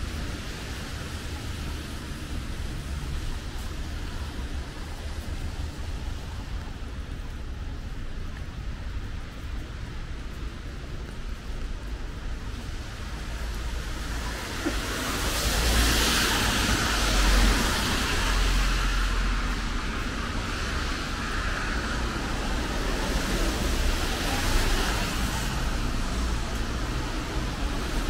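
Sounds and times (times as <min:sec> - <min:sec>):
low traffic rumble: 0:00.0 - 0:28.0
tyres hissing on wet street: 0:00.0 - 0:28.0.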